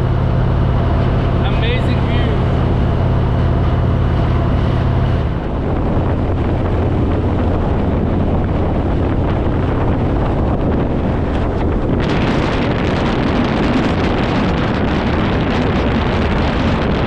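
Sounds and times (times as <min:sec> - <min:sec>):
motorcycle engine at speed: 0:00.0 - 0:17.0
wind noise on microphone: 0:00.0 - 0:17.0.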